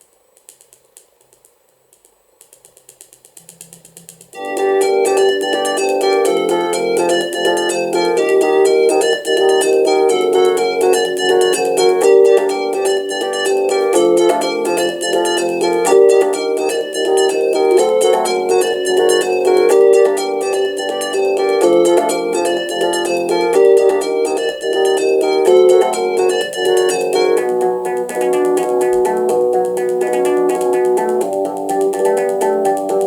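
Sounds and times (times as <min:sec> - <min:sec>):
held synth chords: 0:04.4 - 0:33.0
quick plucked-sounding notes: 0:04.4 - 0:33.0
synthesised music: 0:04.4 - 0:33.0.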